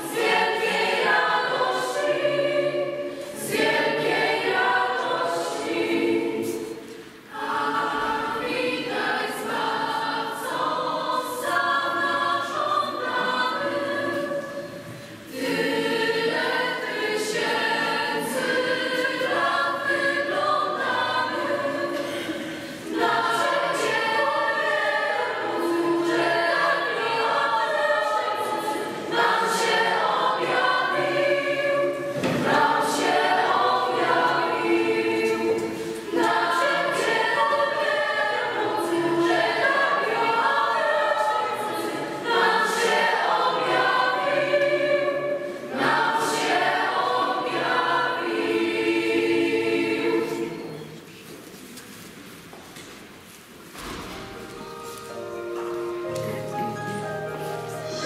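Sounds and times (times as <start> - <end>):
children's choir singing a carol: 0.0 - 58.0.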